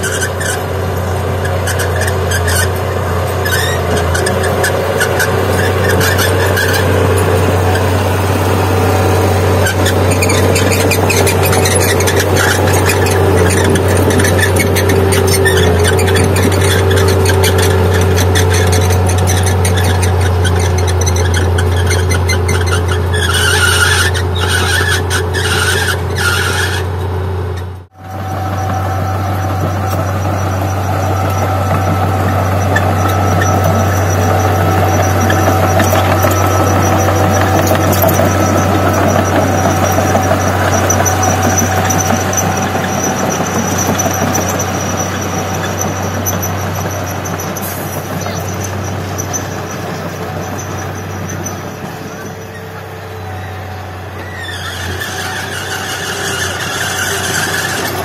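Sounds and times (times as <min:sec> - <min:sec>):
bulldozer diesel engine running: 0:00.0 - 0:58.0
steel tracks squealing: 0:00.0 - 0:58.0.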